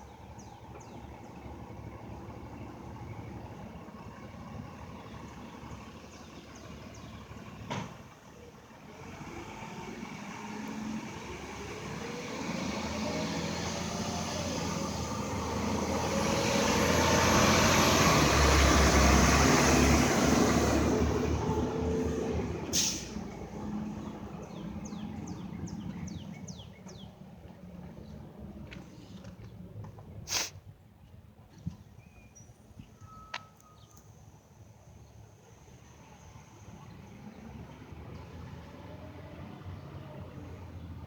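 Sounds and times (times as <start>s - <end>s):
garbage truck diesel engine: 0.0s - 30.2s, 35.4s - 41.0s.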